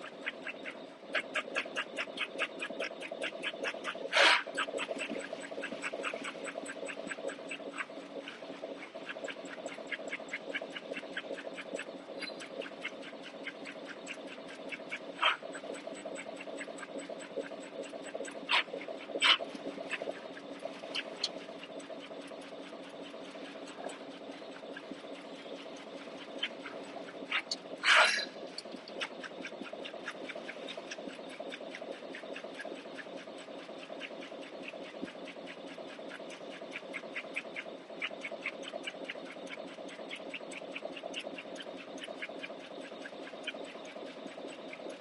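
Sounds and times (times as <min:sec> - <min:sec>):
machine drive hum: 0:00.0 - 0:45.0.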